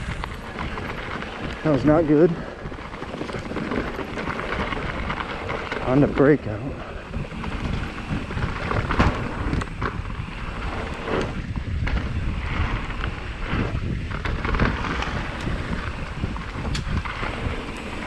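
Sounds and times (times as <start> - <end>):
bike knocks and rattles: 0.0 - 6.4, 7.2 - 10.5, 11.2 - 18.0
tyre noise on dirt: 0.0 - 18.0
wind buffeting microphone: 0.0 - 18.0.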